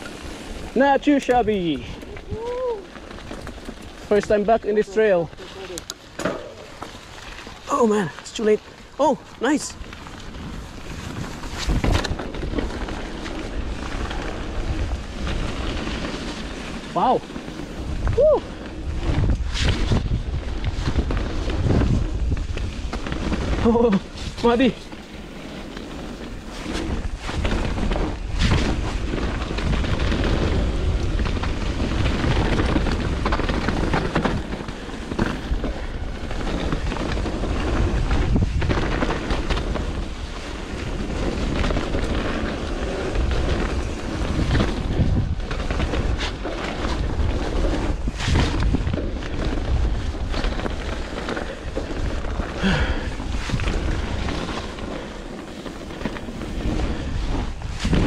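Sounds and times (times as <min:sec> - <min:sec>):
bike rattling and knocking: 0:00.0 - 0:58.0
wind buffeting microphone: 0:00.0 - 0:58.0.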